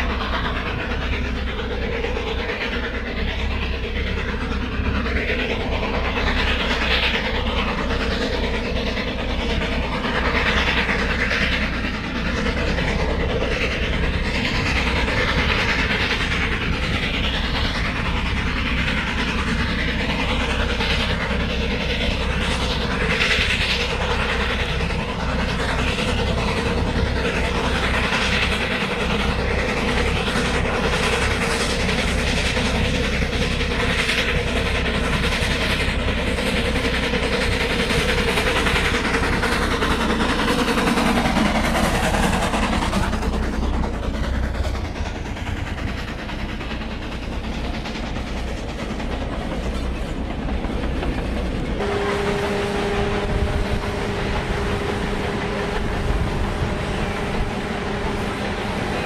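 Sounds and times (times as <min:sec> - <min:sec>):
steam locomotive passing: 0:00.0 - 0:59.0.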